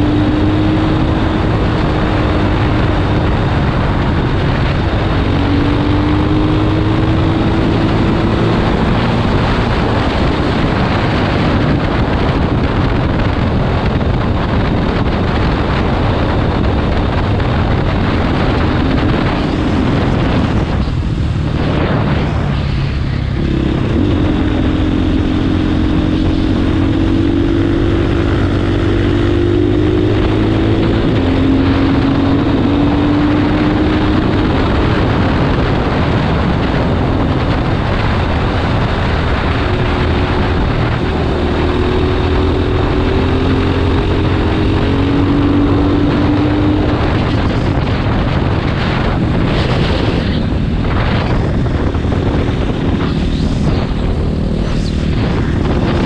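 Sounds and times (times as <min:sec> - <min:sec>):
dirt bike engine: 0:00.0 - 0:56.0
wind rush on microphone: 0:00.0 - 0:56.0.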